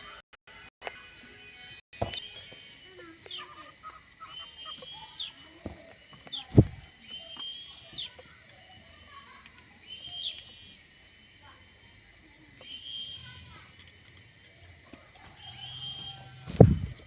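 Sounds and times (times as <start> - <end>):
small birds chirping: 0.0 - 17.0
soft bird calls: 2.0 - 17.0.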